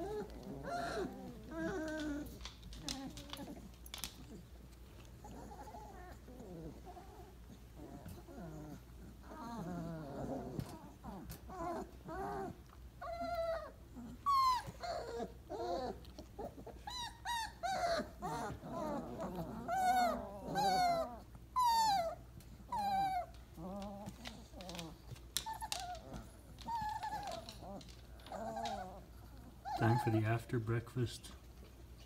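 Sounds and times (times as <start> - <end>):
puppies whimpering and whining: 0.0 - 30.7.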